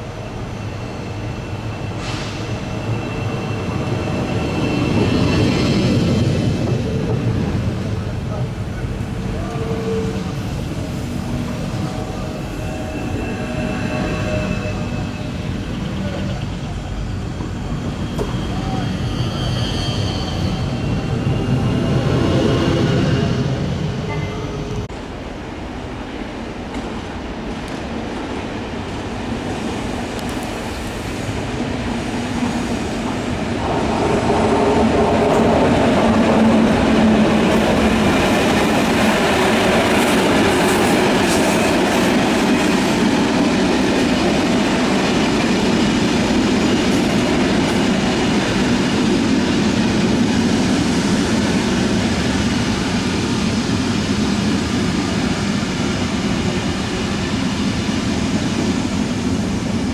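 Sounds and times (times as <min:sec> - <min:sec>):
passenger train running: 0:00.0 - 0:59.9.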